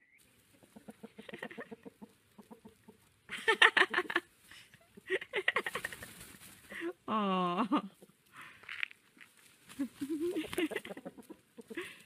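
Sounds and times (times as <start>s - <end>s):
chickens clucking: 0.2s - 7.0s, 7.8s - 8.8s, 9.6s - 12.0s.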